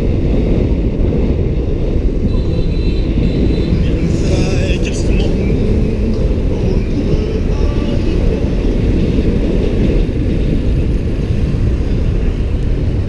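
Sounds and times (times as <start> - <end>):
wind rushing: 0.0 - 13.0.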